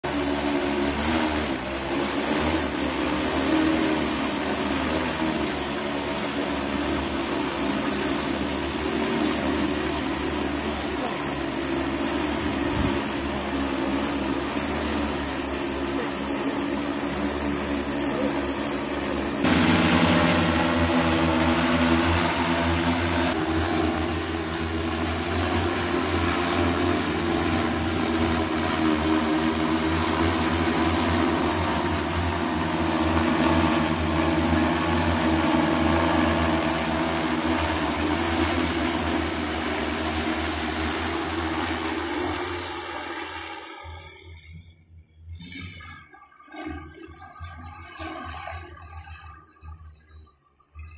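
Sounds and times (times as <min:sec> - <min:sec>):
drone propellers humming: 0:00.1 - 0:46.1.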